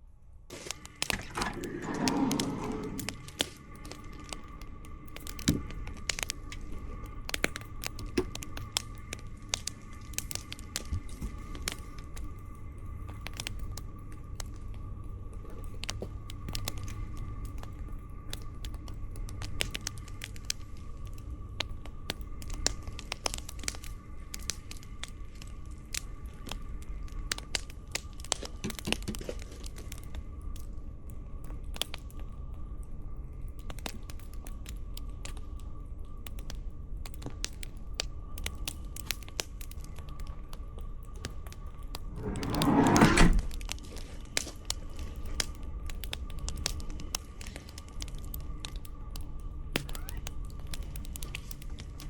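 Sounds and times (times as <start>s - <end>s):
low fire rumble: 0.0s - 52.0s
campfire crackling and popping: 0.5s - 42.8s, 43.5s - 52.0s.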